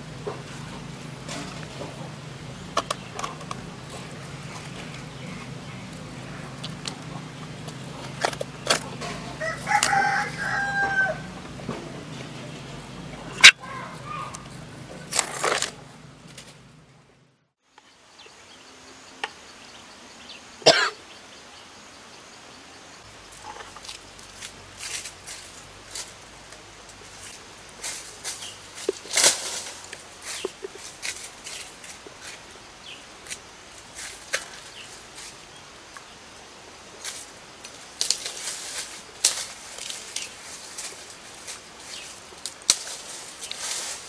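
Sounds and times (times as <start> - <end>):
dry leaves and twigs crackling: 0.0 - 16.8, 23.0 - 44.0.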